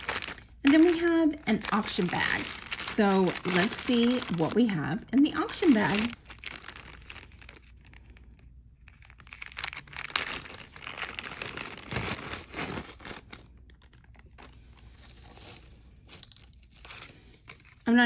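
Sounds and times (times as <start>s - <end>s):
bag crinkling and rustling: 0.0s - 17.9s.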